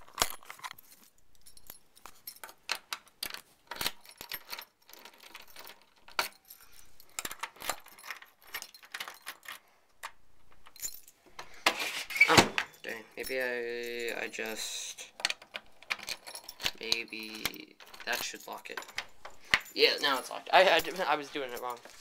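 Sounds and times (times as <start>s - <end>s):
keys jangling: 0.0s - 9.7s, 10.4s - 22.0s.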